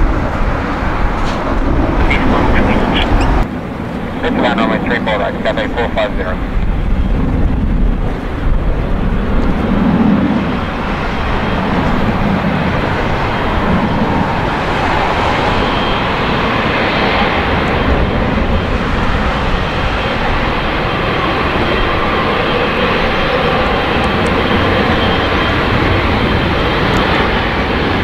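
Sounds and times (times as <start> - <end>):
jet engines rushing: 0.0 - 28.0
faint high engine whine: 0.1 - 28.0.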